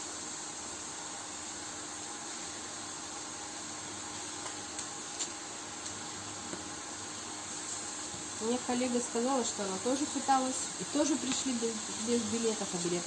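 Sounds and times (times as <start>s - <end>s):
steady hiss with low hum: 0.0s - 13.0s.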